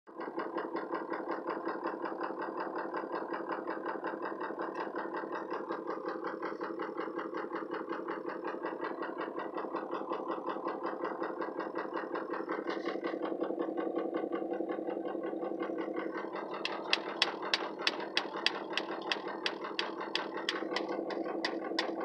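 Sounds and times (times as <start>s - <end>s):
diesel engine idling: 0.1s - 22.0s.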